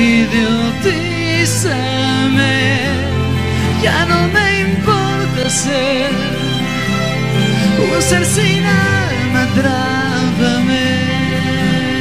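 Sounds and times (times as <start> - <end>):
rock band music: 0.0 - 12.0.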